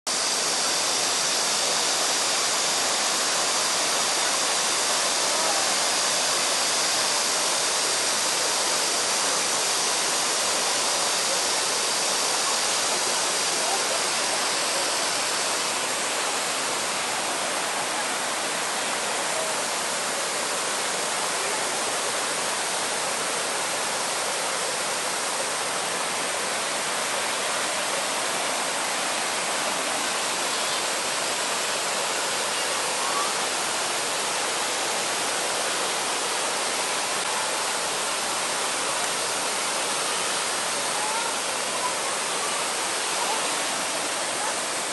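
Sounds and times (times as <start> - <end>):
waterfall pouring into pool: 0.1 - 44.9.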